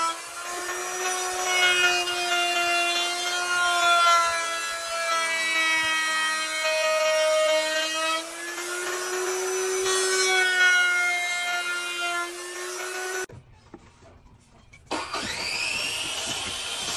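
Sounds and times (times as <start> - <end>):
electric router whining: 0.0 - 13.3, 14.9 - 16.9
router bit cutting wood: 0.0 - 13.3, 14.9 - 16.9.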